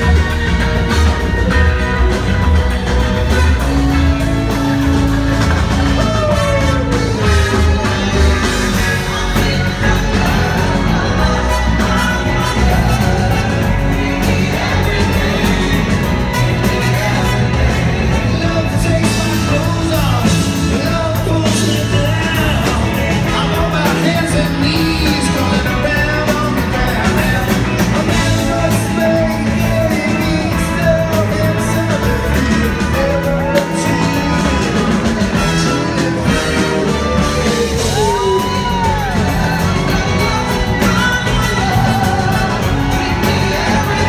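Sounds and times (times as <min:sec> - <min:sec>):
live rock band: 0:00.0 - 0:44.0
singer: 0:00.0 - 0:44.0.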